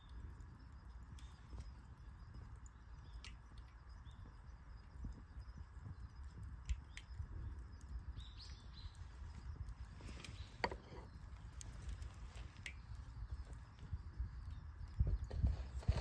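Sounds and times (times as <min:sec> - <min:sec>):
campfire crackling: 0:00.0 - 0:16.0
sharp pops of burning wood: 0:00.0 - 0:16.0.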